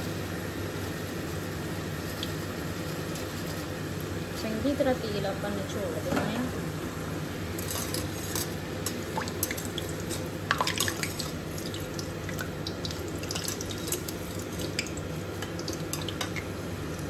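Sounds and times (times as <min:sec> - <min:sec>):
hot oil dripping and crackling: 0:00.0 - 0:06.0, 0:07.3 - 0:17.0
steady low hum: 0:00.0 - 0:17.0.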